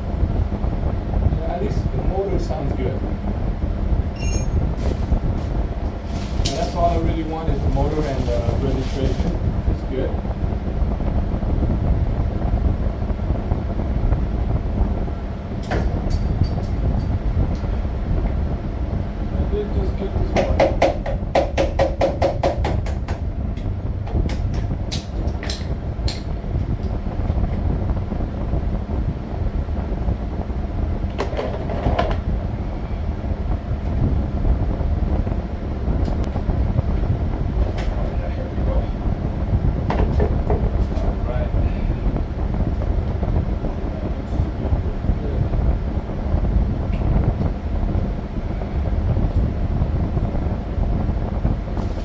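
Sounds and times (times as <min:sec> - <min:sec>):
moving vehicle rumble: 0:00.0 - 0:52.0.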